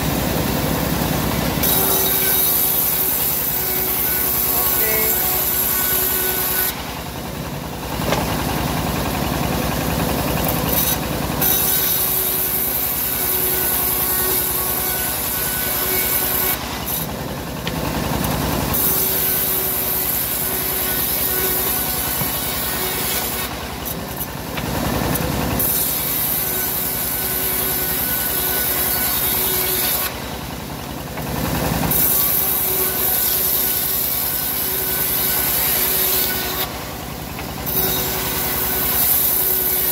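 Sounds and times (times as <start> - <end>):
bandsaw blade cutting wood: 0.0 - 39.9.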